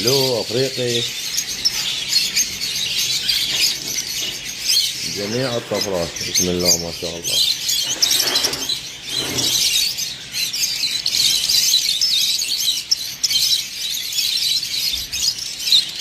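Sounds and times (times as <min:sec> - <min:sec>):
caged birds chirping: 0:00.0 - 0:16.0.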